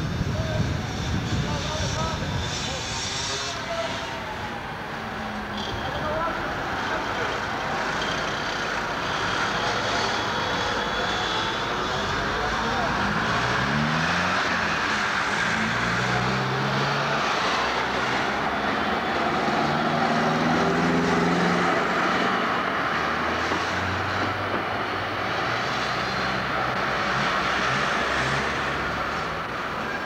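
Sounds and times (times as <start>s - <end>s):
trams and vehicles passing: 0.0s - 30.0s.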